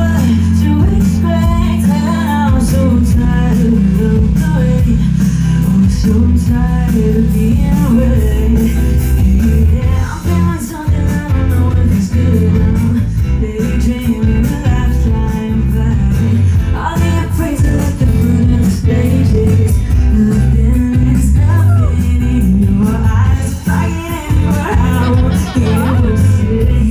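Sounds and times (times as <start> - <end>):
guitar: 0.0 - 26.9
live rock band: 0.0 - 26.9
person singing: 0.0 - 26.9.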